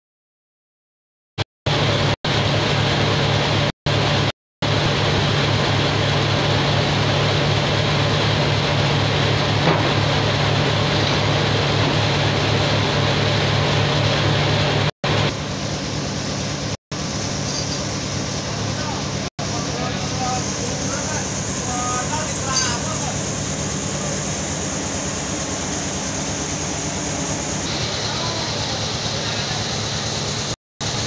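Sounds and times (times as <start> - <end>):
sawmill machinery humming: 1.7 - 31.0.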